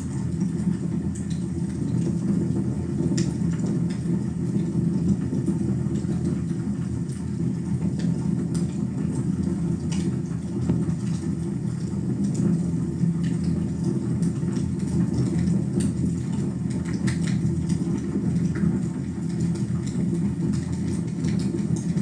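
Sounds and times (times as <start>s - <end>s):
fire rumbling in a fireplace: 0.0s - 22.0s.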